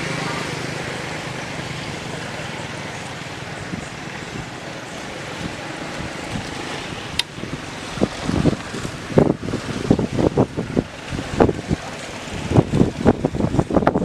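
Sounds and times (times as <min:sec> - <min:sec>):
outdoor hiss: 0:00.0 - 0:13.8
wind on microphone: 0:00.0 - 0:14.0.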